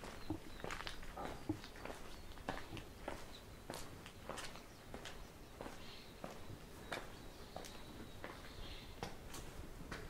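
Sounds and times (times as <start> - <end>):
footsteps on paved ground: 0.0 - 10.0.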